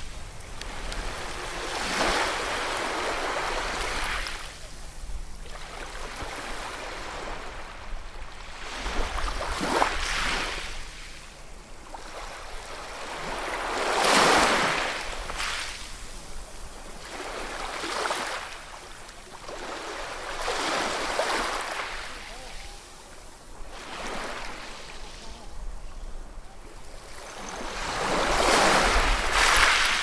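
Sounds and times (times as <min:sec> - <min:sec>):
sea waves washing on shore: 0:00.0 - 0:30.0.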